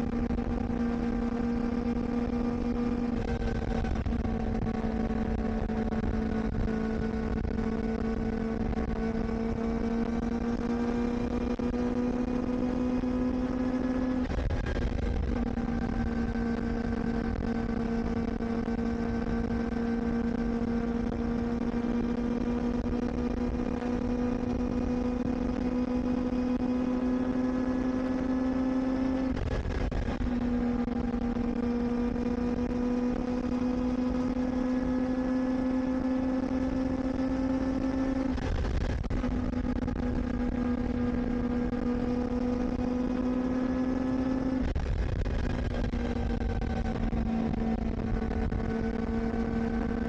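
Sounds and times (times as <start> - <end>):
motorcycle engine running: 0.0 - 50.0
road and wind rumble: 0.0 - 50.0.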